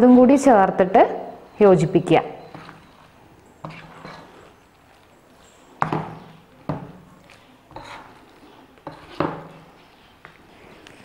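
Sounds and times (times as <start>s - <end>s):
spoon stirring batter in steel bowl: 2.0s - 11.0s.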